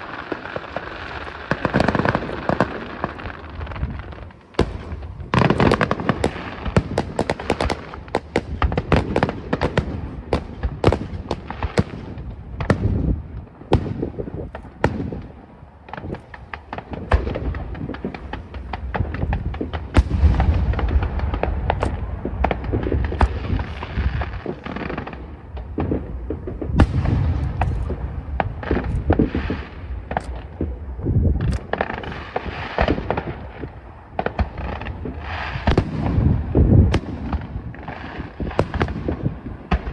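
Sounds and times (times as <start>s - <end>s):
continuous low rumble: 0.0s - 39.9s
fireworks booms and bangs: 0.0s - 39.9s.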